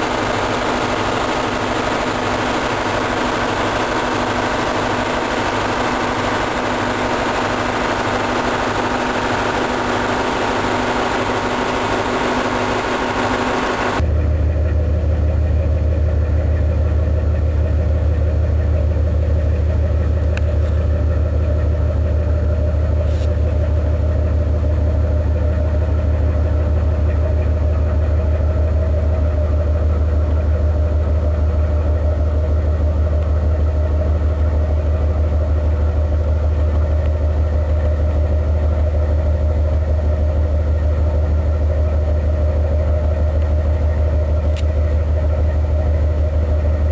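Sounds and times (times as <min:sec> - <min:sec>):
diesel engine deep drone: 0:00.0 - 0:46.9.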